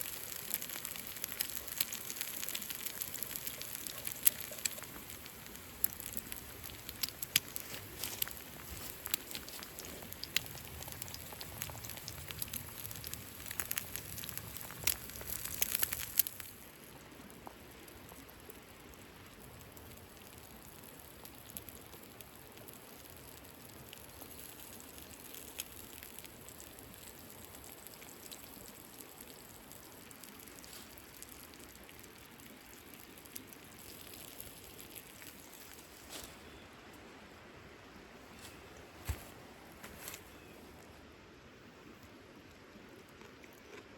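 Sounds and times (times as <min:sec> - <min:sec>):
campfire crackling: 0:00.0 - 0:36.3.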